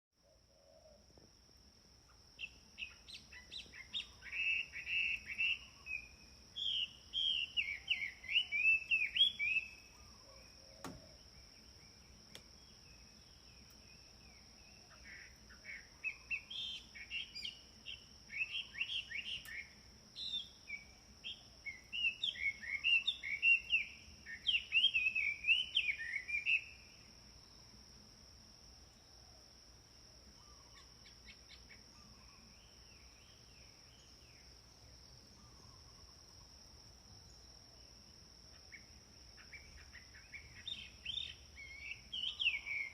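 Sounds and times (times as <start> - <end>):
songbird chirping: 0.2 - 42.9.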